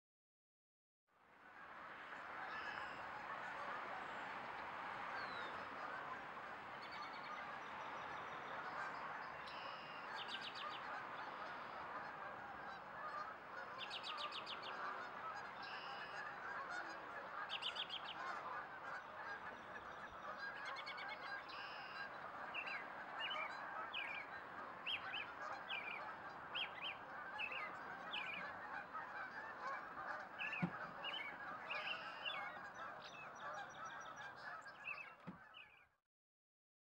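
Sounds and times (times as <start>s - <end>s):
flock of geese honking: 1.6s - 35.8s.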